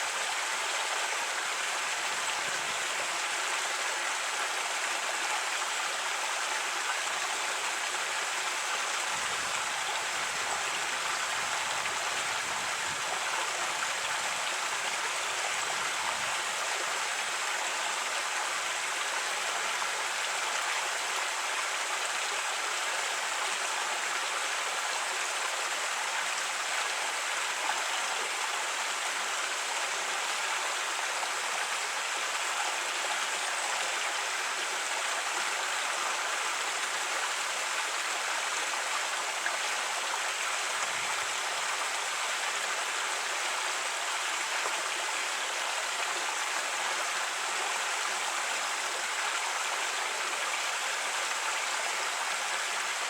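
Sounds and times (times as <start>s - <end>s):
creek water over rocks: 0.0s - 53.0s.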